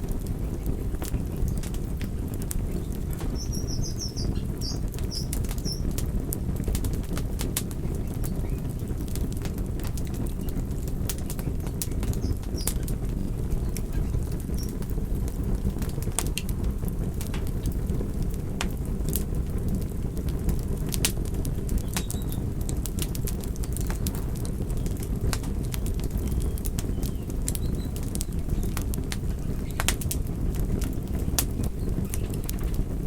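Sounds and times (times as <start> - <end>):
low rush of flames: 0.0 - 33.0
wood fire crackles and pops: 0.0 - 33.0.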